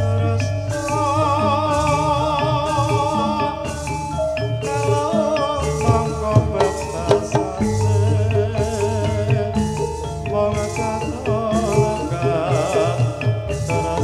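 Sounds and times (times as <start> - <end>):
gamelan music: 0.0 - 14.0
man singing into a microphone: 0.0 - 14.0.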